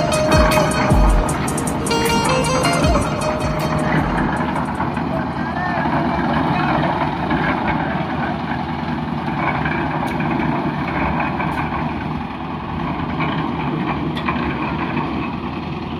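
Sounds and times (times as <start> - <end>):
engine running: 0.0 - 15.9.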